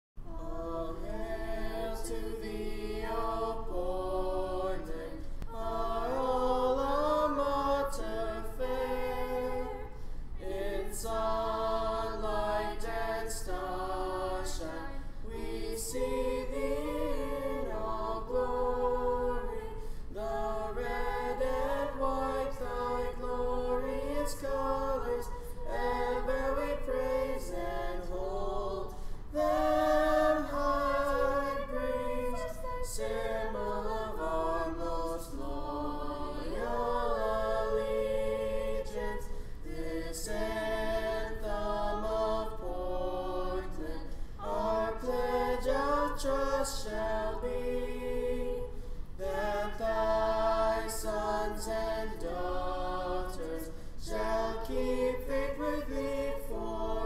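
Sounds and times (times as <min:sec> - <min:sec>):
choir singing a cappella: 0:00.2 - 0:57.0.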